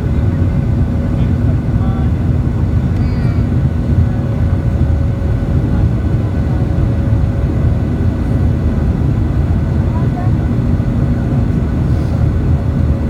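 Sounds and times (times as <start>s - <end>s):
jet engines low rumble: 0.0s - 13.0s.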